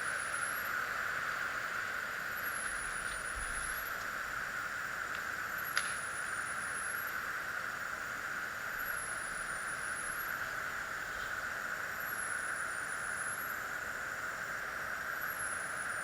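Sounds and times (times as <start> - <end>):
faint high whine: 0.0 - 16.0
steady hiss: 0.0 - 16.0.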